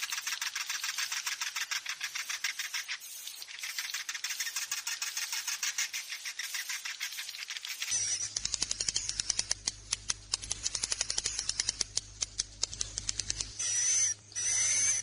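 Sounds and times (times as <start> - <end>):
swiftlets chirping and clicking: 0.0 - 15.0.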